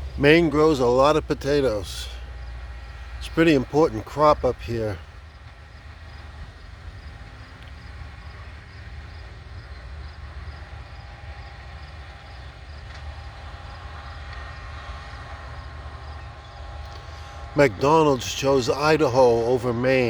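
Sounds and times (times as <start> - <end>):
machinery engine rumble: 0.0 - 20.0.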